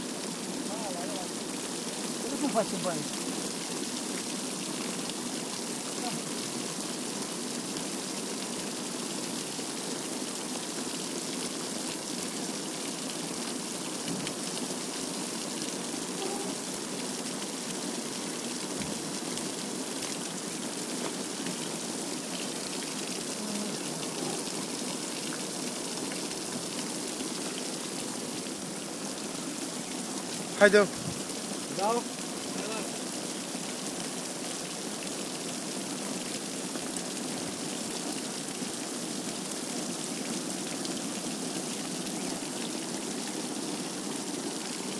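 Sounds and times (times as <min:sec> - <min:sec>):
water gushing onto metal chute: 0:00.0 - 0:44.9.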